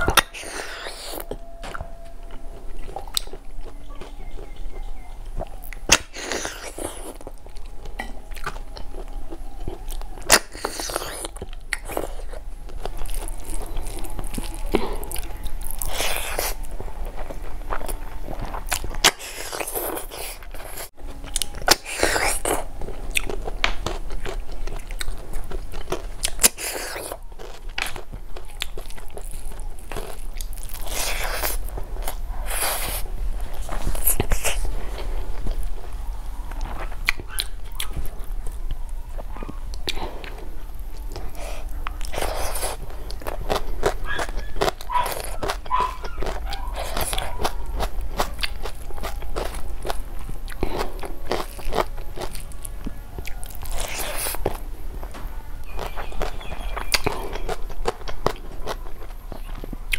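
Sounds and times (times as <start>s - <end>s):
person chewing food: 0.0s - 59.9s
sharp crunches and clicks: 0.0s - 59.9s.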